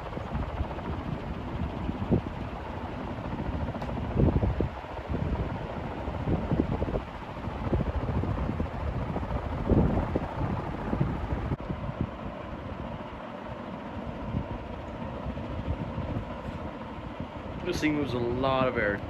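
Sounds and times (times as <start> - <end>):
wind buffeting microphone: 0.0 - 13.2, 14.0 - 19.0
ceiling fan air rush: 0.0 - 19.0
faint fan hum: 0.0 - 19.0.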